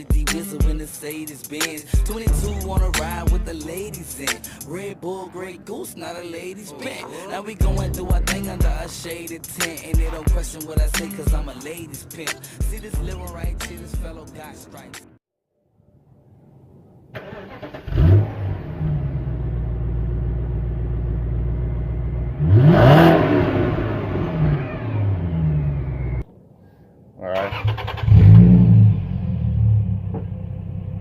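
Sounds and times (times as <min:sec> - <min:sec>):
car engine idling: 0:00.0 - 0:15.0, 0:17.2 - 0:22.8, 0:23.5 - 0:26.2, 0:28.0 - 0:31.0
car engine starting: 0:00.0 - 0:15.0, 0:17.1 - 0:26.3, 0:27.3 - 0:31.0
car engine revving: 0:01.6 - 0:14.9, 0:17.2 - 0:26.2, 0:27.5 - 0:31.0.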